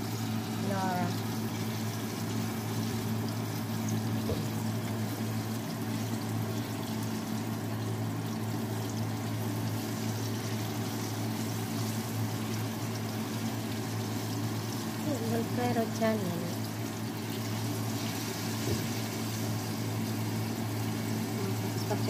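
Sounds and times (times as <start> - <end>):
food sizzling in hot oil: 0.0 - 22.0
steady low hum: 0.0 - 22.0.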